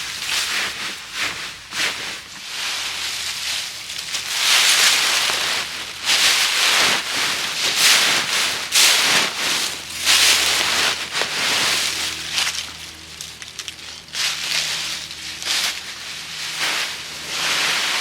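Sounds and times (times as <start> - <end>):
dry leaves rustling and crunching: 0.0 - 18.0.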